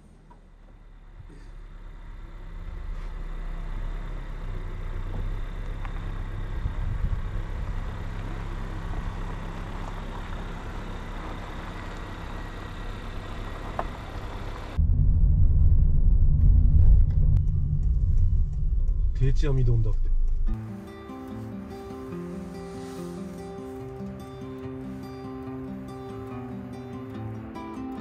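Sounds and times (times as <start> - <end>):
car engine hum: 0.0 - 26.9
road noise: 0.0 - 27.4.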